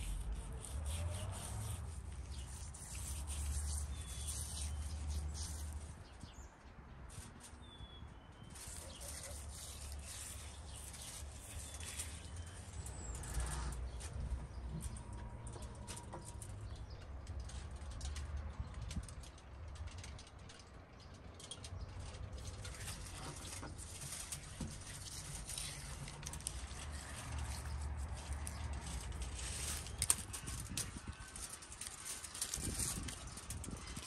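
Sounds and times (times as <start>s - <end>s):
wet rustles of hands rubbing meat: 0.0s - 6.2s, 7.1s - 16.6s, 21.9s - 34.0s.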